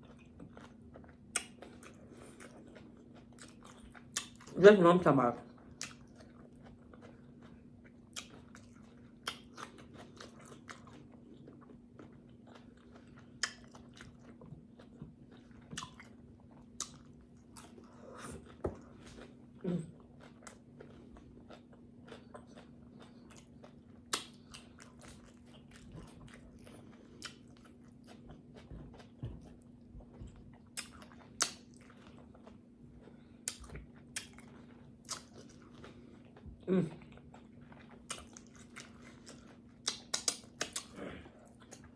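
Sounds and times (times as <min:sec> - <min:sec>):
chewing and biting crunches: 0:00.0 - 0:04.6, 0:05.5 - 0:41.9.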